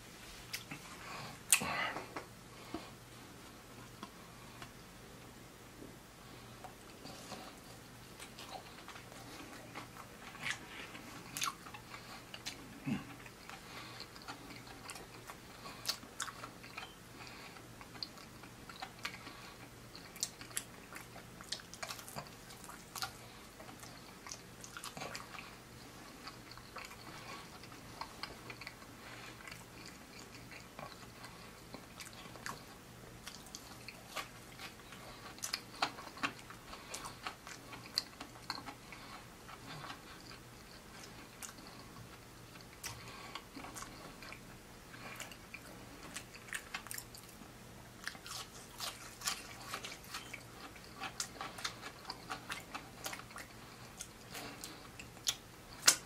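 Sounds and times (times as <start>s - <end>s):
person chewing crunchy food: 6.2s - 56.0s.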